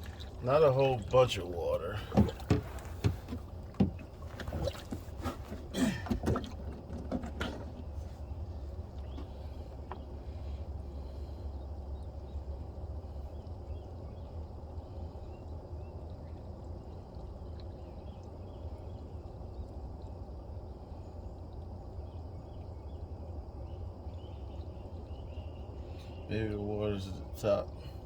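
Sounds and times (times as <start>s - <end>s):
low steady rumble: 0.0s - 28.0s.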